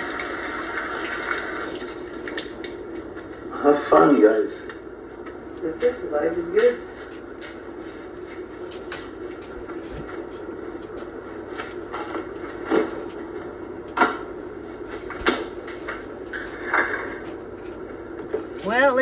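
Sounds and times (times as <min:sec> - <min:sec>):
steady low hum: 0:01.4 - 0:19.0.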